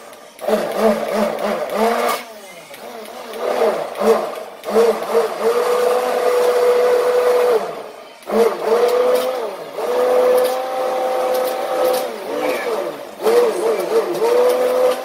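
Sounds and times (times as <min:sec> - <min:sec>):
immersion blender motor: 0:00.0 - 0:15.0.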